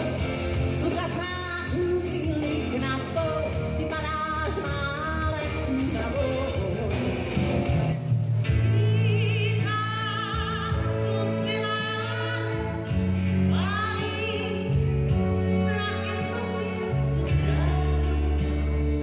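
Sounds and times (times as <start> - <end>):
woman singing with vibrato: 0.0 - 7.4, 8.5 - 19.0
live pop-rock band playing: 0.0 - 19.0.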